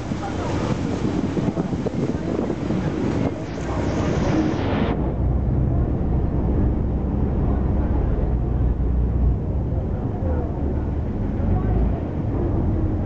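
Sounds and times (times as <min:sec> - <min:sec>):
boat engine droning: 0:00.0 - 0:13.0
rushing water: 0:00.0 - 0:13.0
wind: 0:00.0 - 0:13.0.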